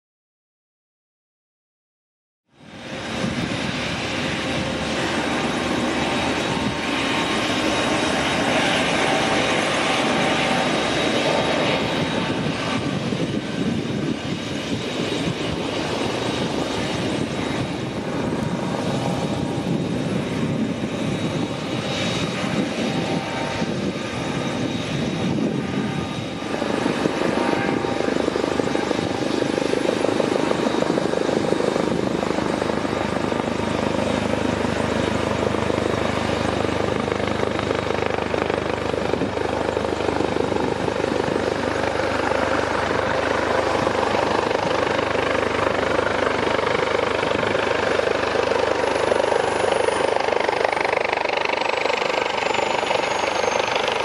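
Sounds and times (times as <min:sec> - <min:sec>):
helicopter rotor chop: 0:02.5 - 0:54.0
turbine whine: 0:02.5 - 0:54.0.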